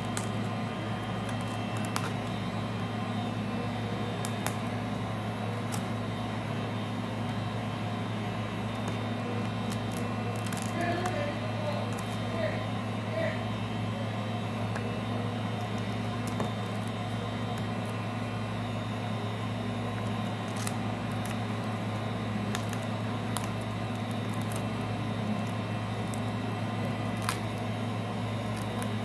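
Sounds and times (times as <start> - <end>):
heat gun humming: 0.0 - 29.0.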